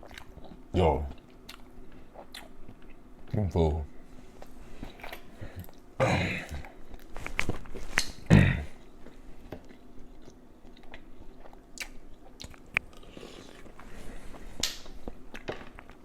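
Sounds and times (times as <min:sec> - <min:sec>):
chewing and mouth smacks: 0:00.0 - 0:03.4, 0:04.4 - 0:05.9, 0:06.6 - 0:16.0.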